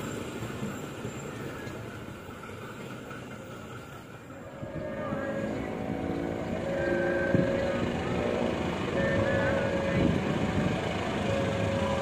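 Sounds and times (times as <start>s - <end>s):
diesel locomotive engine drone: 0.0s - 12.0s
passenger train rumble: 0.0s - 12.0s.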